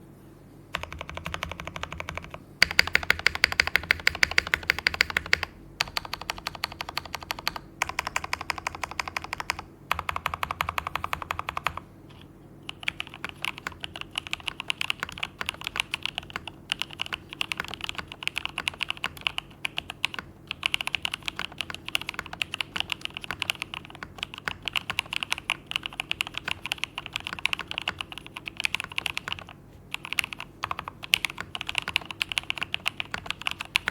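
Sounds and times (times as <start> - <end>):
continuous keyboard typing: 0.7 - 33.9
rapid key presses on keyboard: 0.7 - 33.9.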